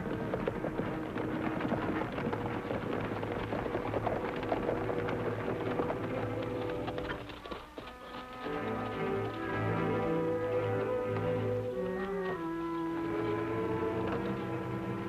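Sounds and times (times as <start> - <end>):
background score: 0.0 - 15.0
horse hooves clattering: 0.0 - 15.0.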